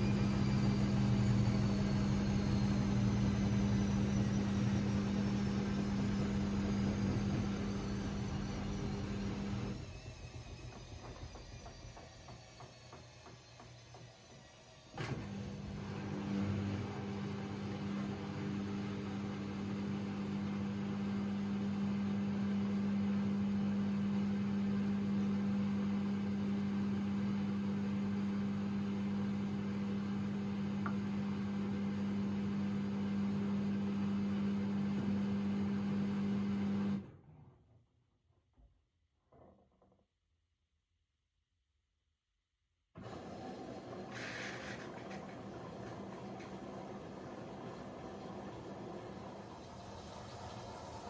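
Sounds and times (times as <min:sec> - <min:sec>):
washing machine humming: 0:00.0 - 0:37.1, 0:43.0 - 0:51.0.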